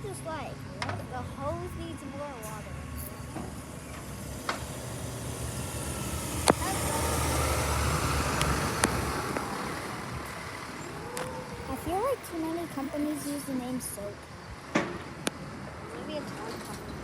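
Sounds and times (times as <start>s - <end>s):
heavy truck engine passing: 0.0s - 17.0s.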